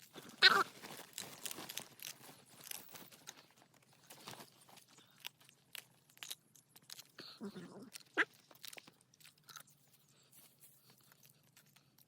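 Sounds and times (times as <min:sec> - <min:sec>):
faint crackling and rustling: 0:00.0 - 0:12.0
small irregular clicks: 0:00.0 - 0:12.0.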